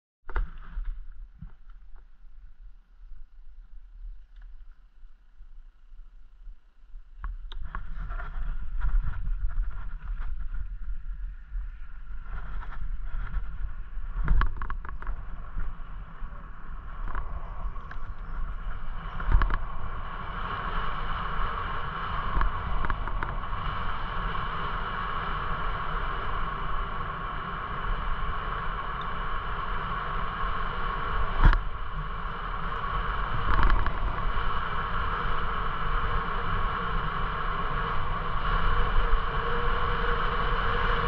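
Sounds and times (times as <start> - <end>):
bicycle tyre rumble: 0.2 - 41.0
steady whine: 0.3 - 41.0
wind buffeting microphone: 7.1 - 41.0.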